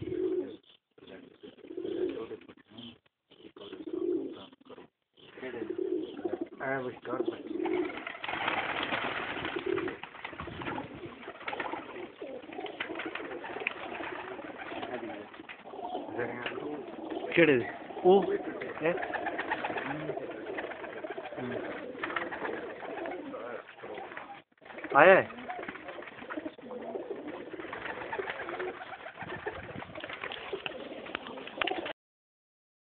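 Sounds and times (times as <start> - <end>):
pigeons cooing: 0.0 - 31.9.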